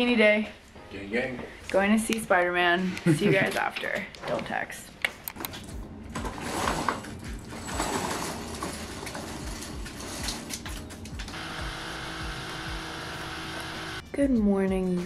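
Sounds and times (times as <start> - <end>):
soft background music with low beat: 0.0 - 15.0.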